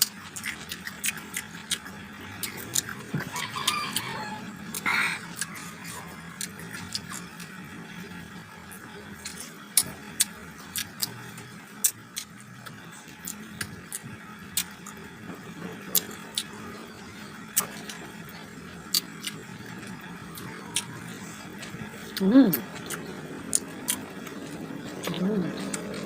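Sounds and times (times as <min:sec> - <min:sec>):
crunchy chewing: 0:00.0 - 0:08.3, 0:09.0 - 0:15.1, 0:15.8 - 0:26.0.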